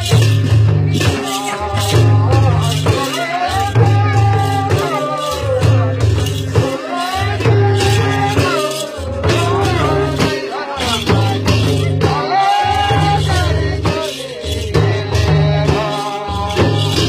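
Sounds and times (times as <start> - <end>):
hand drums beating: 0.0 - 17.0
person singing: 0.8 - 17.0.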